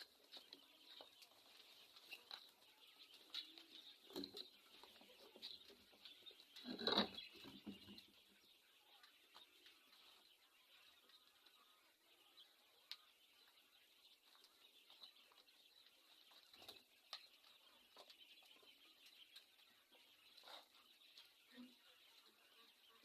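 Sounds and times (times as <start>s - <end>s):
quail peeping: 0.0s - 23.0s.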